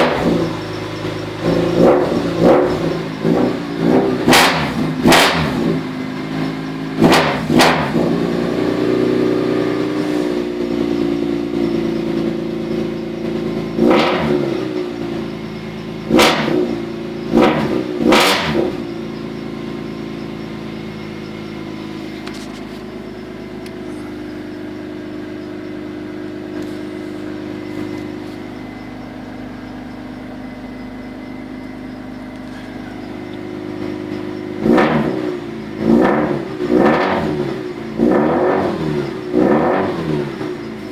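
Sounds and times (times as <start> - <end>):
car engine idling: 0.0 - 40.9
car engine revving: 0.0 - 40.9.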